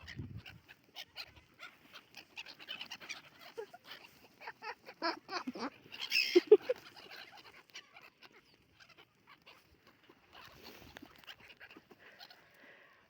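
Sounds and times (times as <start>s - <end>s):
domestic fowl calling: 0.4s - 13.0s.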